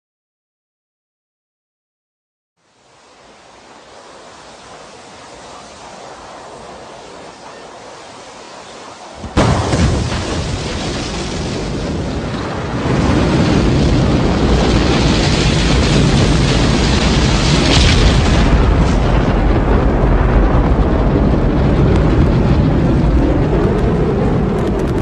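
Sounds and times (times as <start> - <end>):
rocket engine roaring: 2.6 - 25.0.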